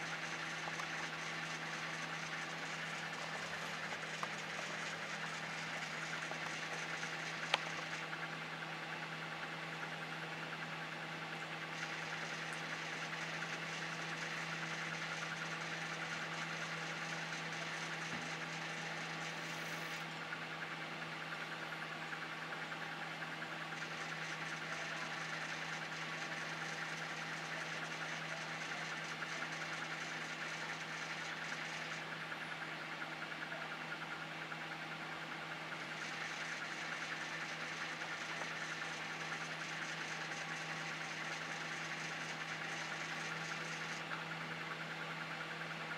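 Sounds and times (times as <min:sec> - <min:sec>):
microwave oven humming: 0:00.0 - 0:45.9.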